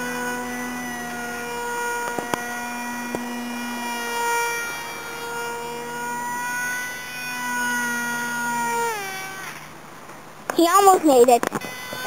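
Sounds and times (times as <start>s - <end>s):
model plane motor whining: 0.0s - 10.0s, 10.8s - 12.0s.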